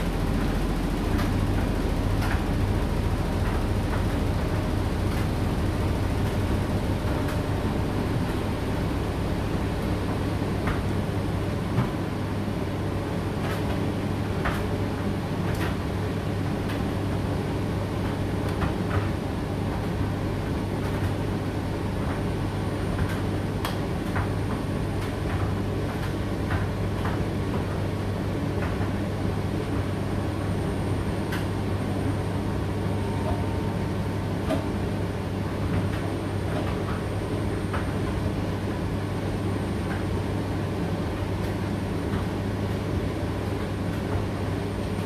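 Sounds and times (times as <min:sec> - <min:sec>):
tumble dryer humming: 0:00.0 - 0:20.9, 0:22.1 - 0:45.0.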